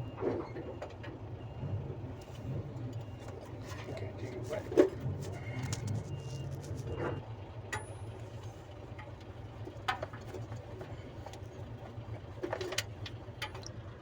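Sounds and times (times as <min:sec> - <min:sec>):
steady low hum: 0:01.3 - 0:14.0.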